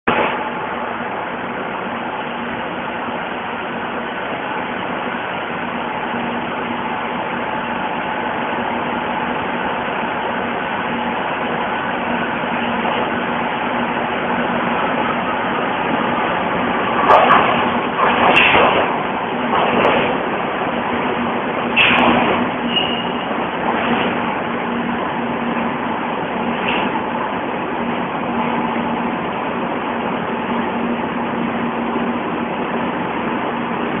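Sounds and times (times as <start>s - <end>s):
metro train rumble and hiss: 0.1s - 34.0s.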